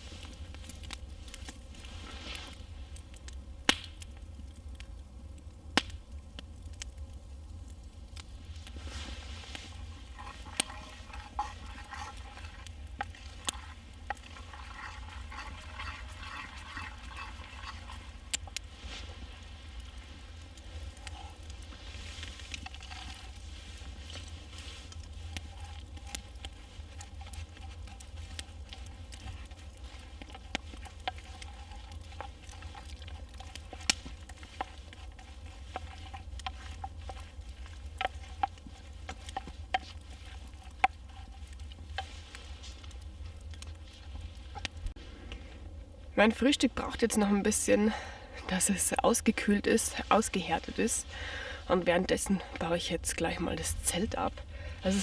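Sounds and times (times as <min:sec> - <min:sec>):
campfire crackles and pops: 0:00.0 - 0:55.0
low sizzle: 0:00.0 - 0:55.0.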